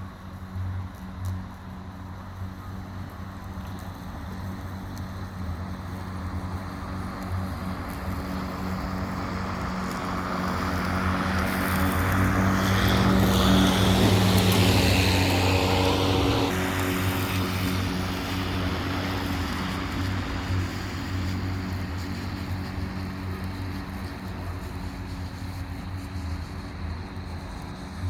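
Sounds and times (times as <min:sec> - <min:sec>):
electric lawn mower running: 0:00.1 - 0:28.0.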